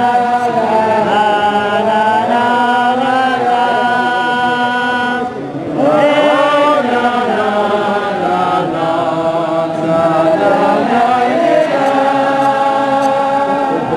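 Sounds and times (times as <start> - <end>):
group of men singing in unison: 0.0 - 13.9.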